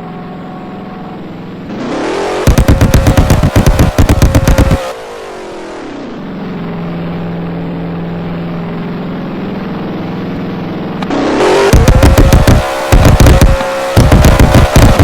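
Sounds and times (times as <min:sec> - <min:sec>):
sports car engine and exhaust: 0:00.0 - 0:15.0.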